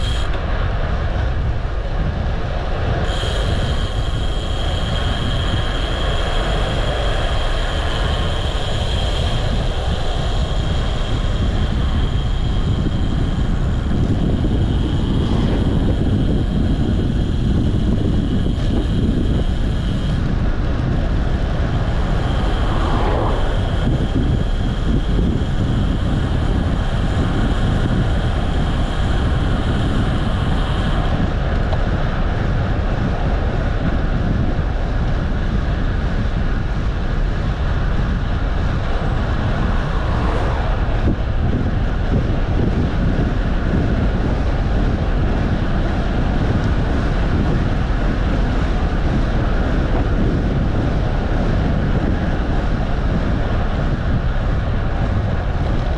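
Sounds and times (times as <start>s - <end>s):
thin high whine: 0.0s - 34.0s, 36.5s - 51.8s
wind buffeting microphone: 0.0s - 55.9s.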